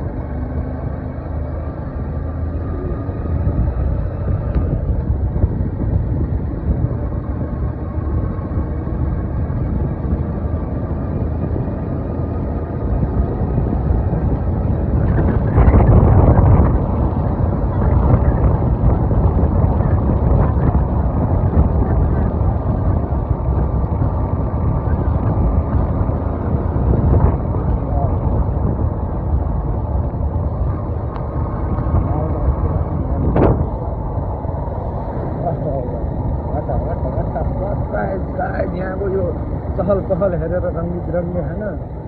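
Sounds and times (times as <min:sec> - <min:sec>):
vehicle engine and road noise: 0:00.0 - 0:42.0
wind buffeting microphone: 0:00.0 - 0:42.0.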